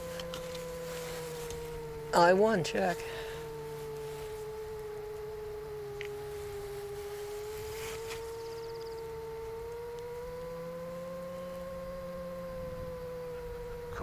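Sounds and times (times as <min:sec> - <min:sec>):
drone motor and propeller hum: 0:00.0 - 0:14.0.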